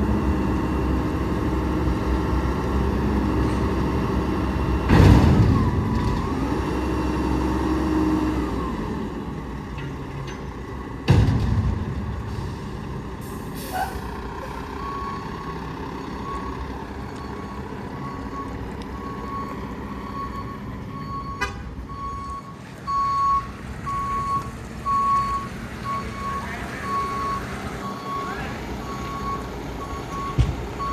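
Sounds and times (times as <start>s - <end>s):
truck backup alarm beeping: 0.0s - 30.9s
truck diesel engine running: 0.0s - 30.9s.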